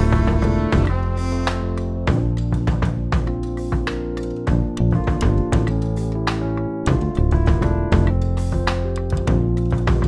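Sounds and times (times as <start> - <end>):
upbeat intro music: 0.0 - 10.0.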